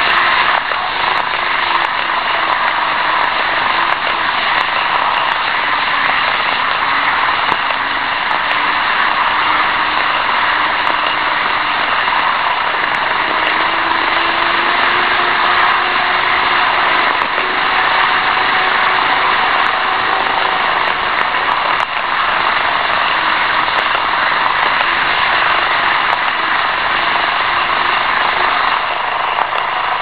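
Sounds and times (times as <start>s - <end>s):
model trains rolling and whirring: 0.0s - 30.0s.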